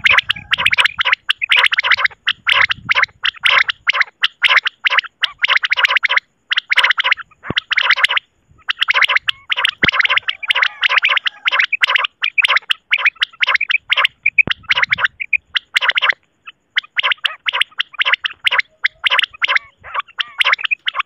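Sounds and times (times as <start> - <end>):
quail calls: 0.0 - 21.0.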